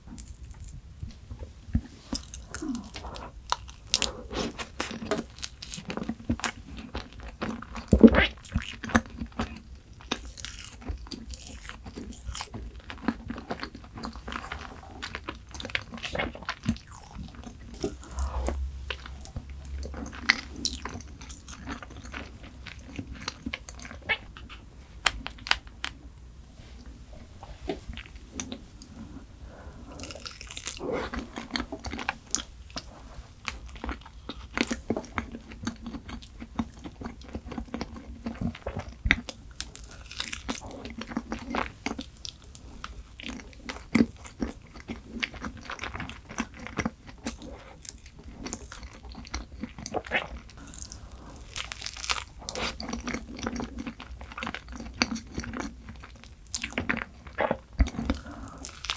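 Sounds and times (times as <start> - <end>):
person chewing and crunching: 0.1 - 26.1, 27.1 - 58.9.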